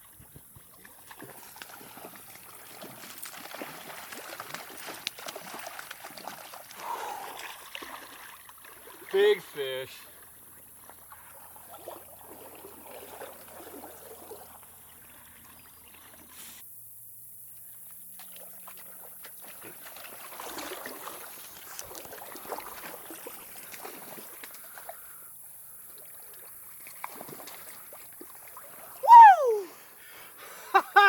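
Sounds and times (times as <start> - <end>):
creek water splashing and trickling: 0.0 - 16.7, 17.5 - 31.0.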